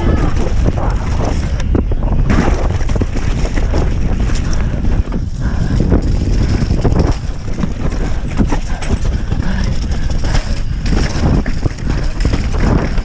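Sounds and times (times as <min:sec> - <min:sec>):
bike knocking and rattling: 0:00.0 - 0:13.0
tyres on dirt: 0:00.0 - 0:13.0
wind on microphone: 0:00.0 - 0:13.0.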